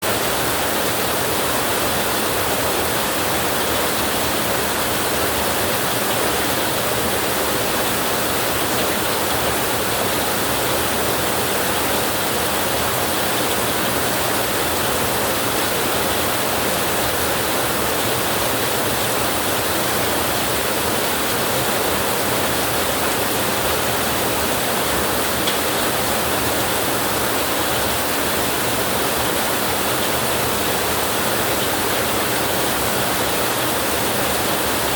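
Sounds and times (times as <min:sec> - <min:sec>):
heavy rain hiss: 0:00.0 - 0:34.9.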